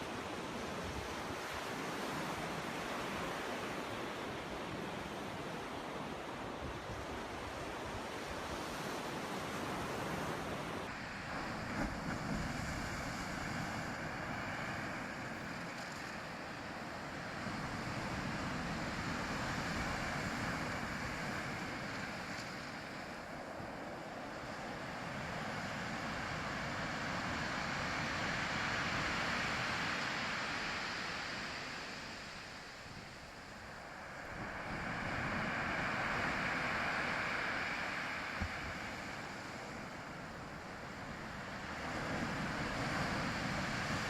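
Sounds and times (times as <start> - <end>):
ocean surf washing: 0.0 - 44.0.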